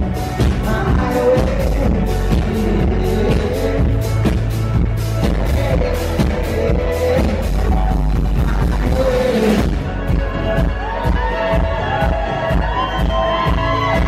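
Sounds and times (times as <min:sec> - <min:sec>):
guitar: 0:00.0 - 0:14.0
person singing: 0:00.0 - 0:14.0.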